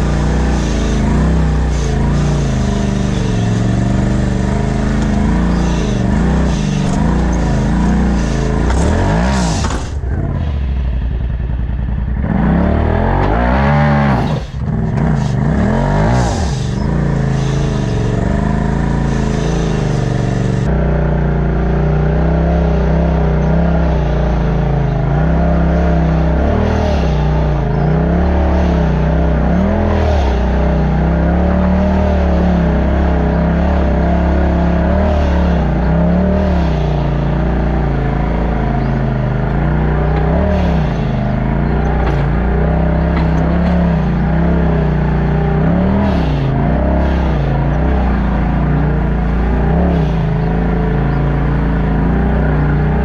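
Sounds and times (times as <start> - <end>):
buggy engine revving: 0.0 - 53.0.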